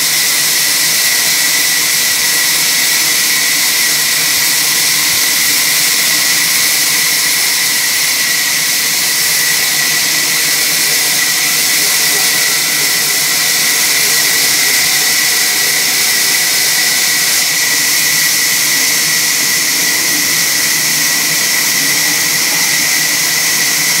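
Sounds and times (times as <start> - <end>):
band saw cutting log: 0.0 - 24.0
high hiss with steady whine: 0.0 - 24.0.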